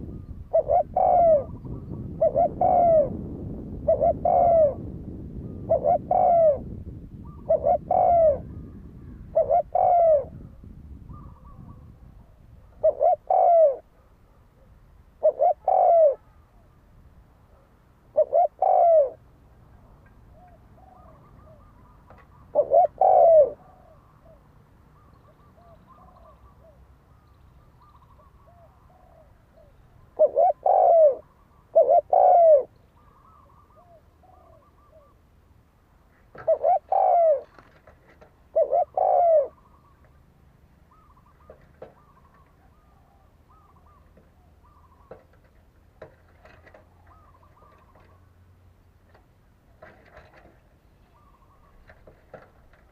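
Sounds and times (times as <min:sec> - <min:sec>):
higher bird calls: 0:00.0 - 0:03.2, 0:03.8 - 0:14.4, 0:15.2 - 0:16.8, 0:17.5 - 0:35.3, 0:38.5 - 0:40.2, 0:40.8 - 0:45.4, 0:46.4 - 0:48.4, 0:50.9 - 0:52.4
dove cooing: 0:00.0 - 0:16.8, 0:17.5 - 0:27.0, 0:27.7 - 0:35.2, 0:36.3 - 0:40.1, 0:40.9 - 0:48.3, 0:49.8 - 0:52.9.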